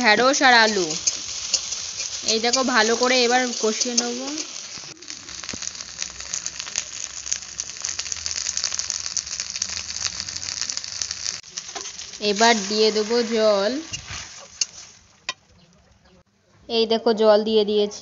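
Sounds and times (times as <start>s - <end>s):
vegetables sizzling in hot oil: 0.0s - 15.4s.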